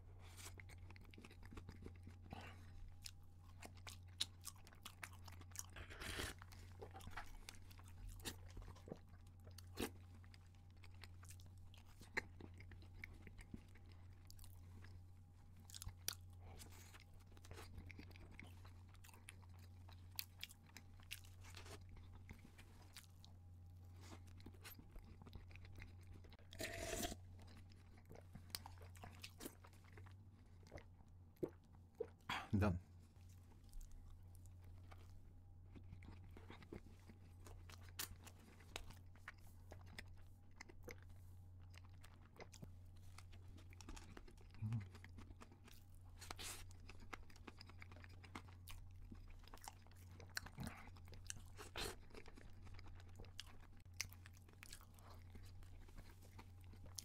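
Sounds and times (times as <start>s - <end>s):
person chewing crunchy cake: 0.0s - 32.4s, 33.0s - 57.0s.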